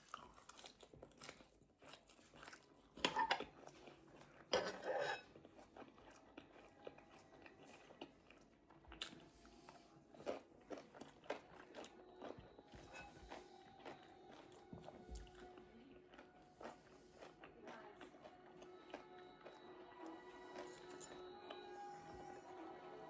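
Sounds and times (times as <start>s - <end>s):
food being chewed and crunched: 0.0s - 22.2s.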